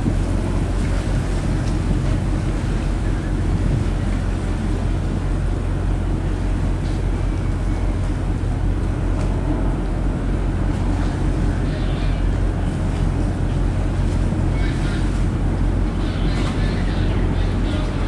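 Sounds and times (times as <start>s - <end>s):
ship engines droning: 0.0s - 18.0s.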